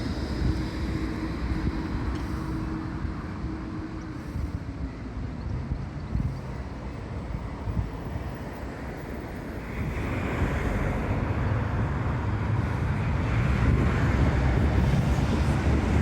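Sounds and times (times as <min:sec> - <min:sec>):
tram rumbling past: 0:00.0 - 0:16.0
wind on microphone: 0:00.0 - 0:16.0.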